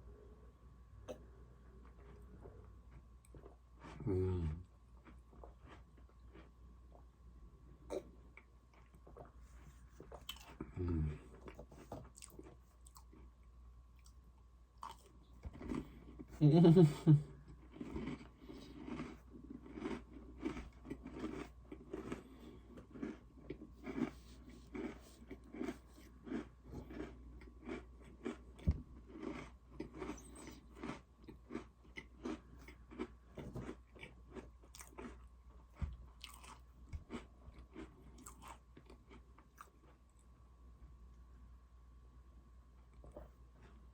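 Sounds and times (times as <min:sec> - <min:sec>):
chewing and crunching cookies: 0:01.0 - 0:41.3, 0:42.7 - 0:43.9.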